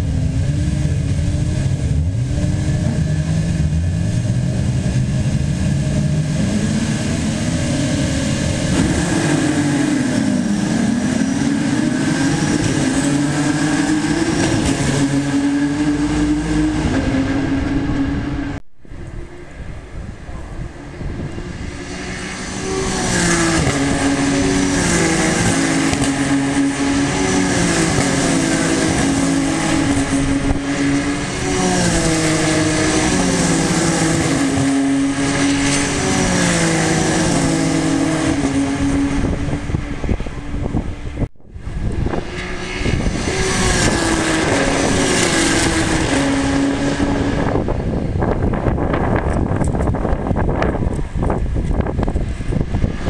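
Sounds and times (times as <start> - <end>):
racing car engines: 0.0 - 53.0.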